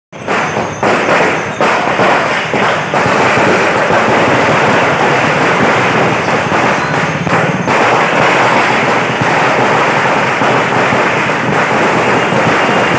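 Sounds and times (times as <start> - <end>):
firecrackers crackling: 0.1 - 12.9.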